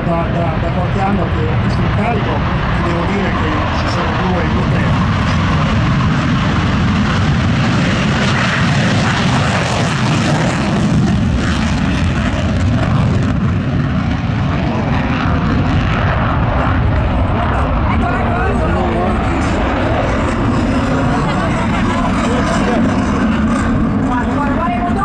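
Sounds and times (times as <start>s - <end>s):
jet aircraft taking off: 0.0s - 25.0s.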